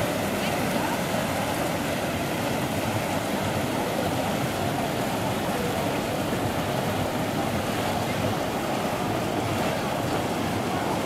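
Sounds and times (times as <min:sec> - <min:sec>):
water jets churning: 0:00.0 - 0:11.0.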